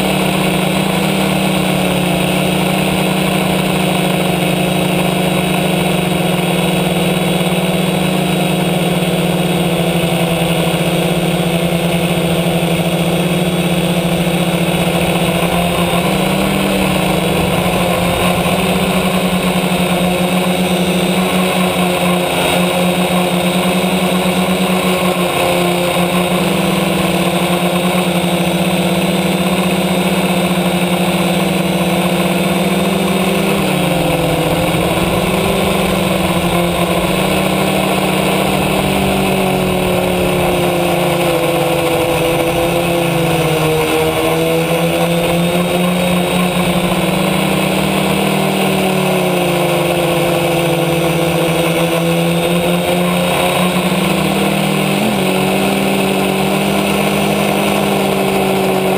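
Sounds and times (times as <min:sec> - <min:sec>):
drone motors and propellers buzzing: 0:00.0 - 0:58.9.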